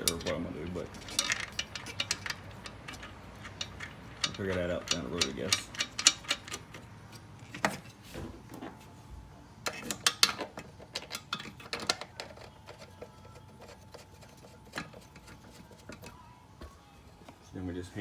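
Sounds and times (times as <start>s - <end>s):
metal parts clicking and clinking: 0.0s - 7.9s, 9.6s - 16.7s.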